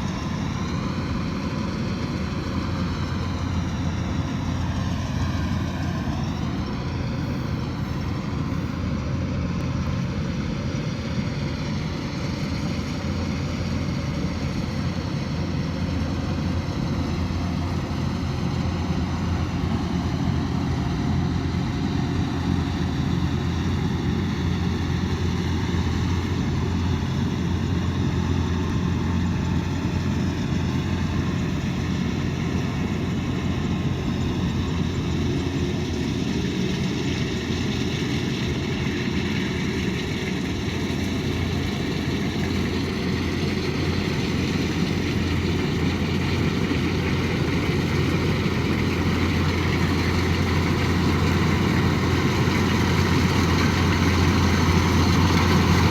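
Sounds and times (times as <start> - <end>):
combine harvester running: 0.0 - 55.9.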